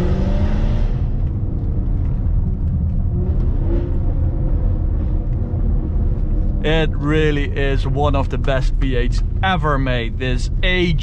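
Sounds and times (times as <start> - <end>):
deep car engine rumble: 0.0 - 11.0.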